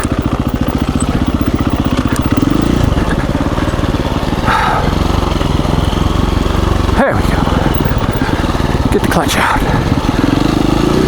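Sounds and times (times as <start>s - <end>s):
motorcycle engine revving: 0.0s - 11.0s
motorcycle engine running: 0.0s - 11.0s.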